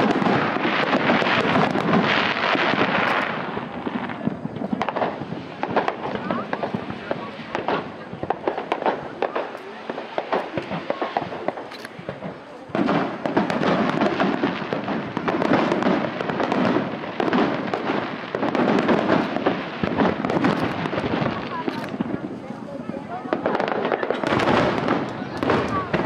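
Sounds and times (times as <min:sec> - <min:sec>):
fireworks popping and banging: 0:00.0 - 0:26.0.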